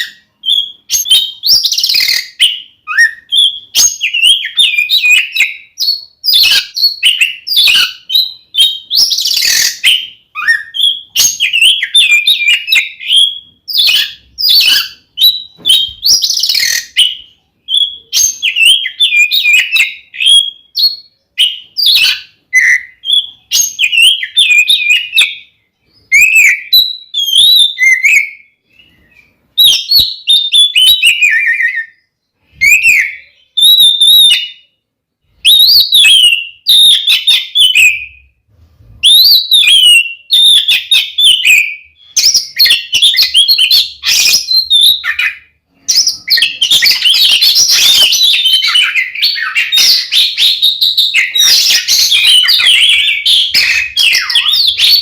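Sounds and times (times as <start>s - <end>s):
bird singing whistled song: 0.0s - 55.0s.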